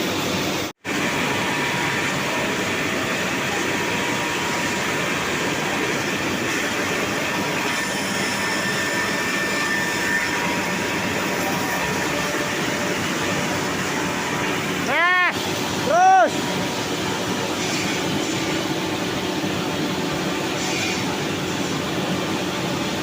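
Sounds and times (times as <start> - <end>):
saw machine rumbling: 0.0 - 23.0.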